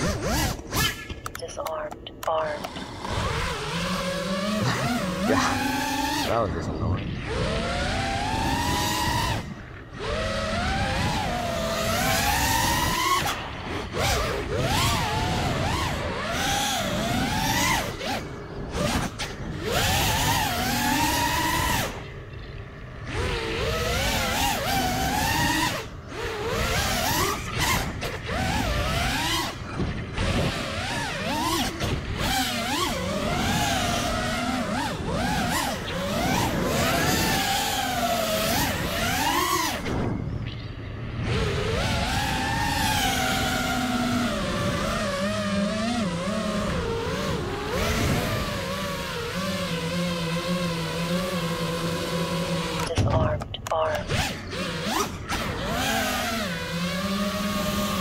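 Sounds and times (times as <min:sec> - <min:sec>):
quadcopter motors whining: 0:00.0 - 0:58.0
low wind rush: 0:02.5 - 0:51.5.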